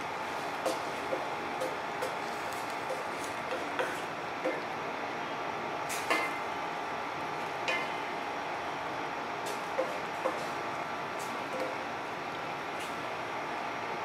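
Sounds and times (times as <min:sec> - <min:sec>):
pan cooking hiss: 0:00.0 - 0:04.8, 0:05.8 - 0:08.3, 0:09.4 - 0:13.5.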